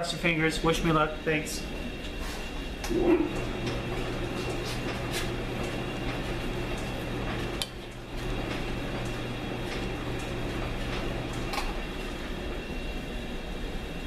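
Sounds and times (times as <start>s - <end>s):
lathe humming: 0.0s - 14.0s.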